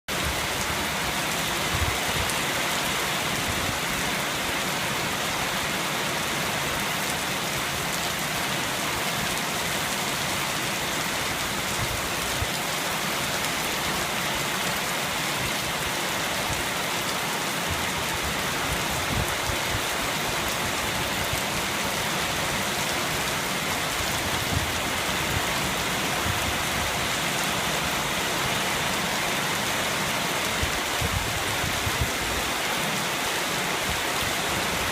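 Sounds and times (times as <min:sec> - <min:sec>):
steady rain pattering: 0:00.1 - 0:34.9.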